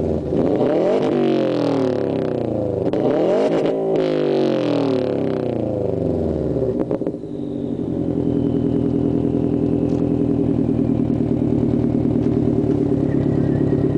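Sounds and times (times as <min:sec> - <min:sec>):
car engine revving then idling: 0:00.0 - 0:13.9.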